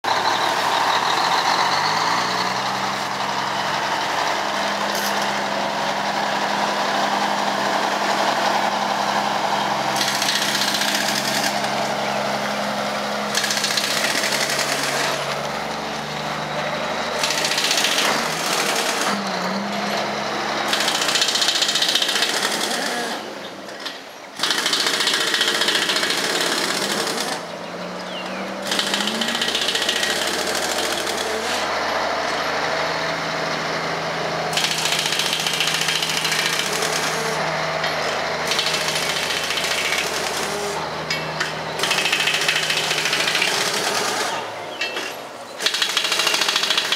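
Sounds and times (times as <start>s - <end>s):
diesel truck engine: 0.0s - 46.9s.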